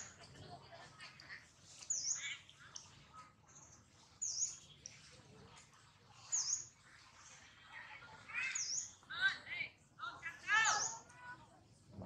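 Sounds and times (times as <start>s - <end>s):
bird high dipping chirp: 0.0s - 11.4s.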